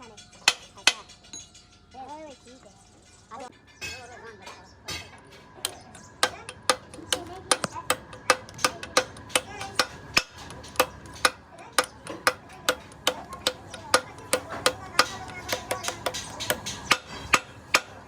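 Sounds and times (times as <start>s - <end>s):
hammer striking steel: 0.1s - 1.7s, 4.9s - 18.0s.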